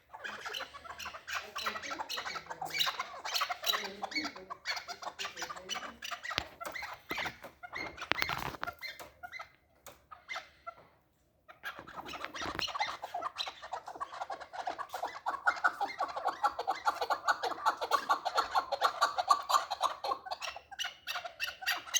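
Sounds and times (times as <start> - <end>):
partridge calling: 0.0 - 9.5, 11.5 - 21.9.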